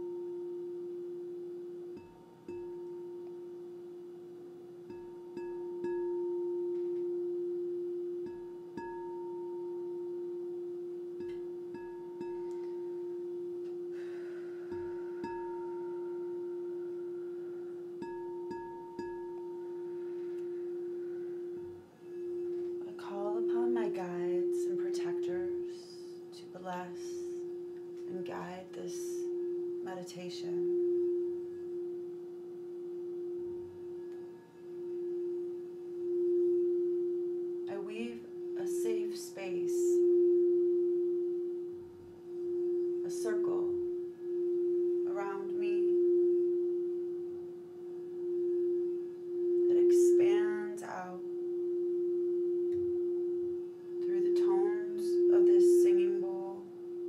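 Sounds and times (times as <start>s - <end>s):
singing bowl tone: 0.0s - 57.0s.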